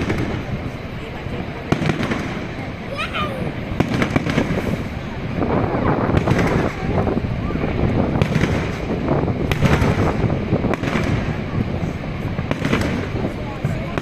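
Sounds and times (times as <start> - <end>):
fireworks bangs and crackles: 0.0 - 14.0
people's voices: 0.0 - 14.0.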